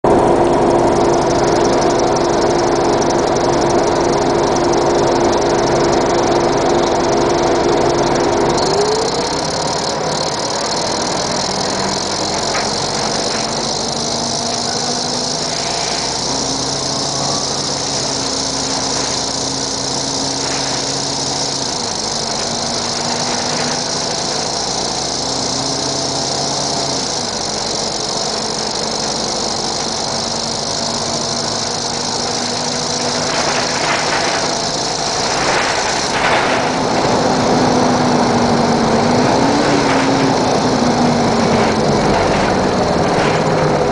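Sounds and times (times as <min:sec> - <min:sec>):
bus diesel engine running: 0:00.0 - 0:43.9.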